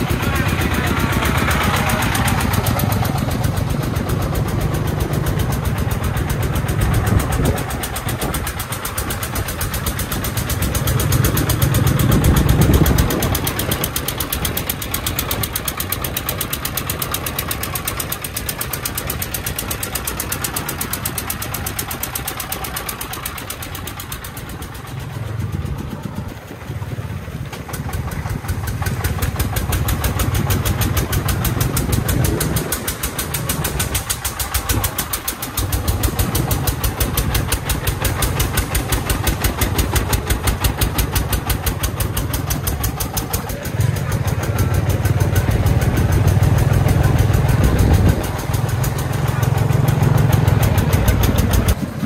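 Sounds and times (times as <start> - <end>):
diesel engine chugging: 0.0 - 52.0.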